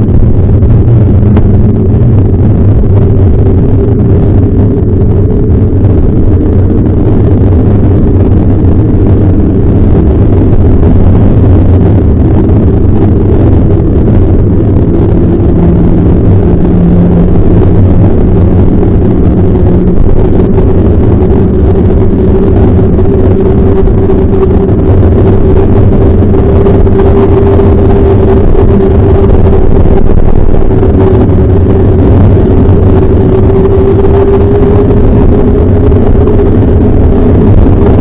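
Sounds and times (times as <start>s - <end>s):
tyre road rumble: 0.0s - 38.0s
wind buffeting: 0.0s - 38.0s.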